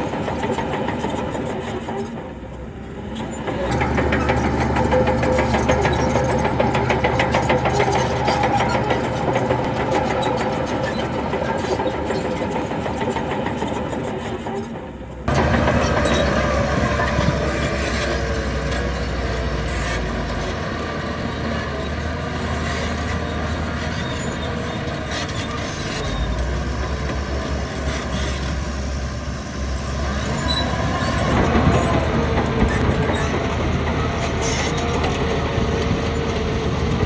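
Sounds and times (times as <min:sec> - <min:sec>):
heavy earthmoving machinery: 0:00.0 - 0:37.0.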